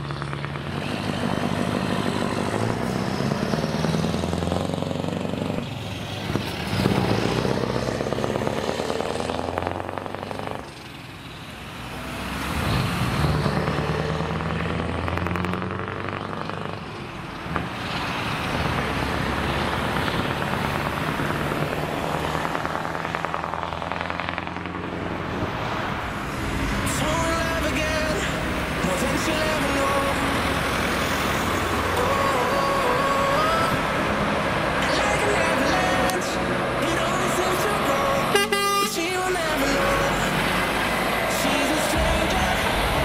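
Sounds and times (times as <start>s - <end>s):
diesel truck accelerating through gears: 0.0s - 43.0s.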